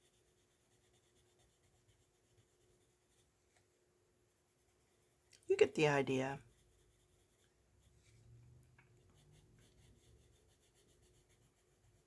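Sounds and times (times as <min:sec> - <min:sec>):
coloured pencil scratching on paper: 0:00.0 - 0:12.0.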